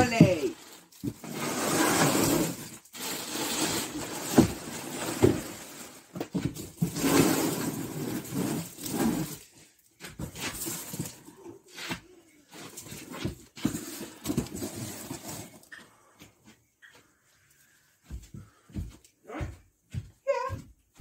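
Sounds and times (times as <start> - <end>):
boxes rustling and scraping: 0.0 - 17.2.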